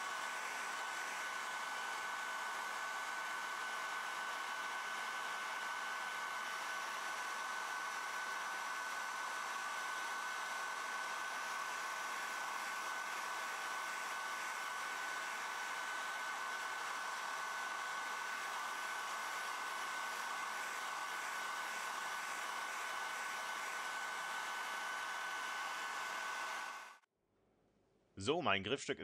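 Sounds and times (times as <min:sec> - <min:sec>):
hair dryer running: 0:00.0 - 0:27.1.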